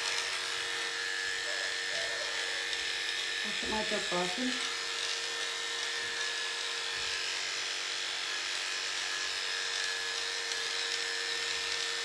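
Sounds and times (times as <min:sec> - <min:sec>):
electric dog clippers humming: 0:00.0 - 0:12.0.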